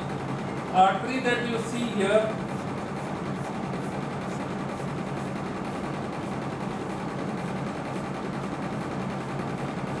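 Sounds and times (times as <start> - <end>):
electric fan humming: 0.0 - 10.0.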